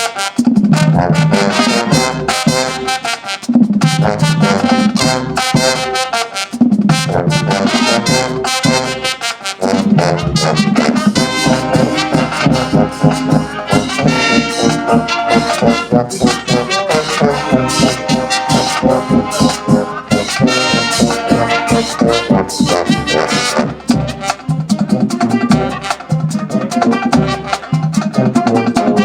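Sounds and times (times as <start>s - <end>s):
brass band chords: 0.0s - 29.0s
marching drums: 0.0s - 29.0s.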